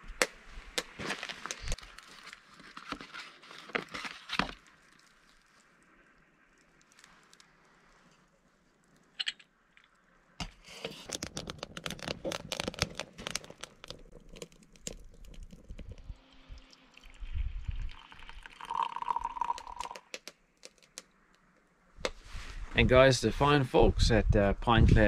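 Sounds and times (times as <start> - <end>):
crinkling handling noise: 0.0 - 16.4, 18.0 - 22.6.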